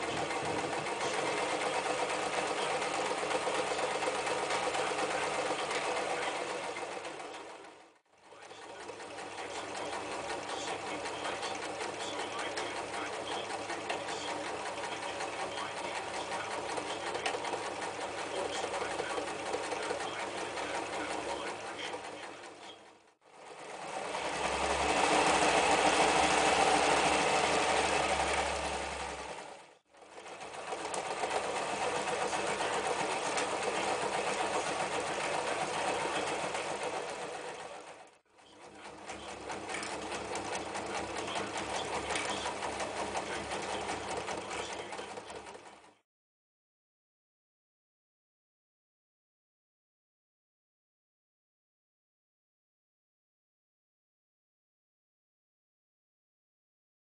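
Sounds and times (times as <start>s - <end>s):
electric sewing machine stitching: 0.0s - 46.0s.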